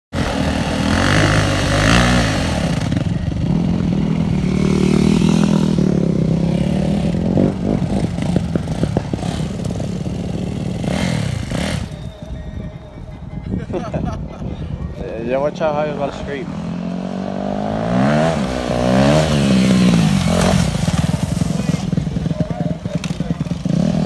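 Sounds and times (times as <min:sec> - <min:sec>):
dirt bike engine revving: 0:00.2 - 0:12.4, 0:15.8 - 0:24.0.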